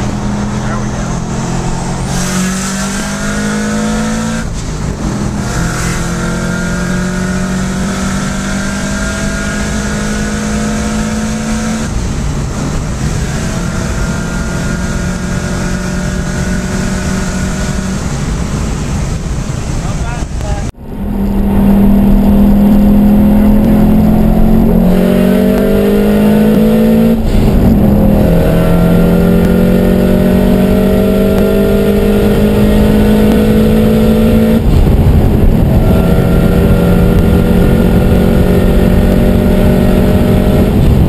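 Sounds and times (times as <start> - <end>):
car engine accelerating hard: 0.0 - 41.0.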